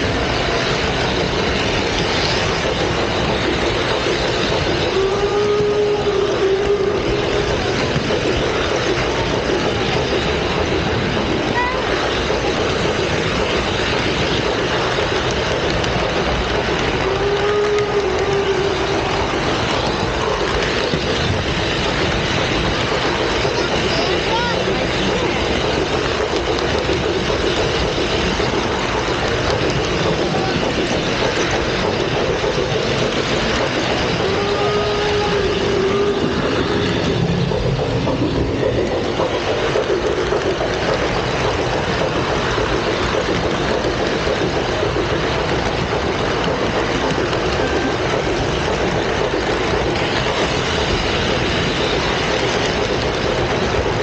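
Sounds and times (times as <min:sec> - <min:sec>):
model train wheels rolling: 0:00.0 - 0:54.0.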